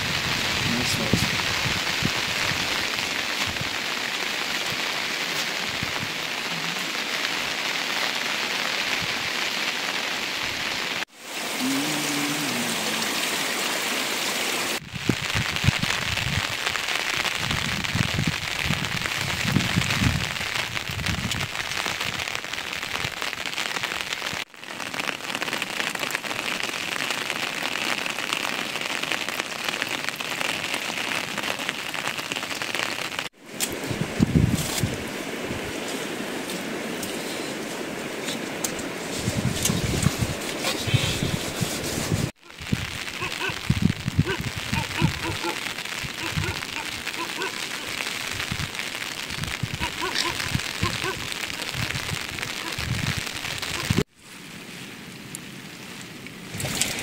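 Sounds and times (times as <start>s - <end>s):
heavy rain falling: 0.0s - 54.1s, 56.1s - 57.0s.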